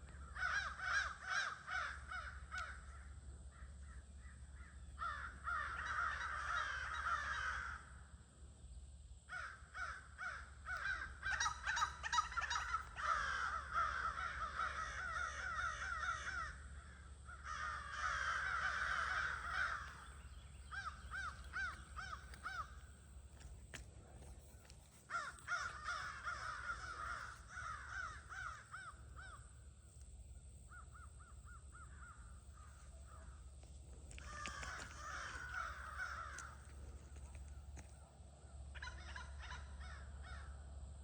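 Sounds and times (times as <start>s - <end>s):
crows cawing: 0.0s - 8.2s, 9.3s - 29.7s, 30.7s - 37.9s, 38.7s - 40.7s.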